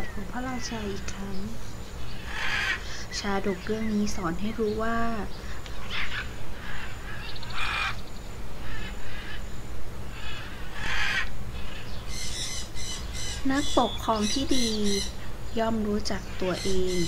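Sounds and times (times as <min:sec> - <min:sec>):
harsh bird calls: 0:00.0 - 0:17.0
steady low hum: 0:00.0 - 0:17.0.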